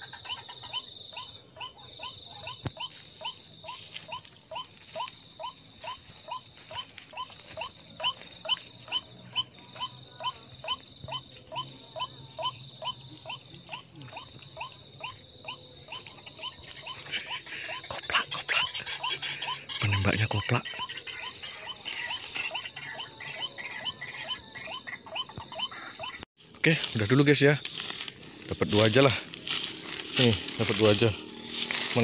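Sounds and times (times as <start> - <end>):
higher insect trill: 0.0 - 32.0
night insects trilling: 0.0 - 32.0.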